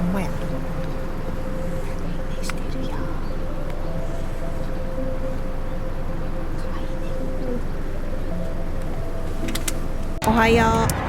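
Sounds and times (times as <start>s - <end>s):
faint held tones: 0.0s - 10.4s.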